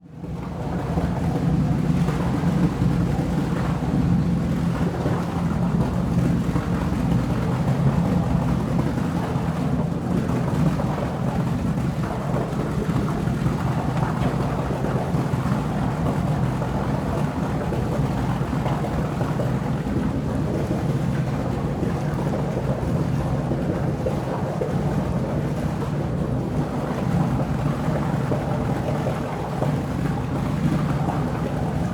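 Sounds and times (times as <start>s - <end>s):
continuous hum: 0.0s - 31.9s.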